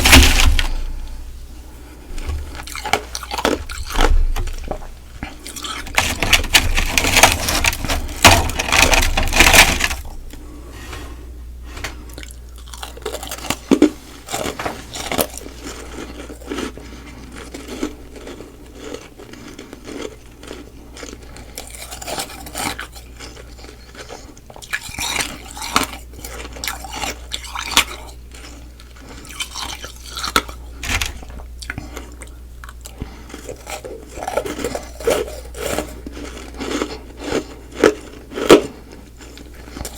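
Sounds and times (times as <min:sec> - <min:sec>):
mouth crunching and chewing ice: 0:02.2 - 0:10.4, 0:12.0 - 0:39.9.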